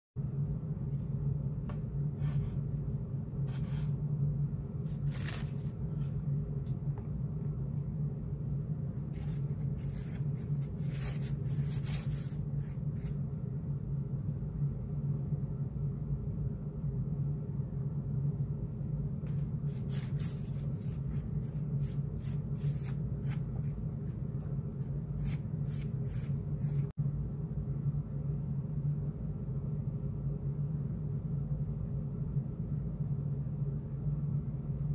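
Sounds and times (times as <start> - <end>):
steady low hum: 0.2 - 34.9.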